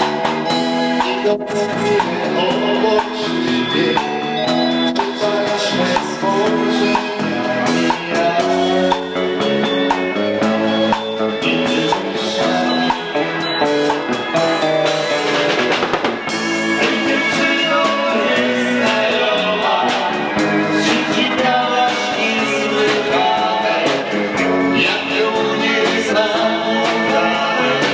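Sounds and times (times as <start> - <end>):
band playing music: 0.0 - 27.9
drum kit steady beat: 0.0 - 27.9.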